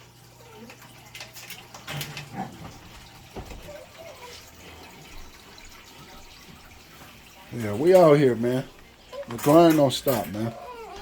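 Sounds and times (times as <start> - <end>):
aquarium water trickling: 0.0 - 11.0.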